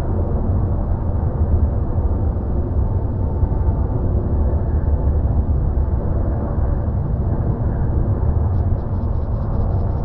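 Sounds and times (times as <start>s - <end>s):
jet engines deep rumble: 0.0s - 10.0s.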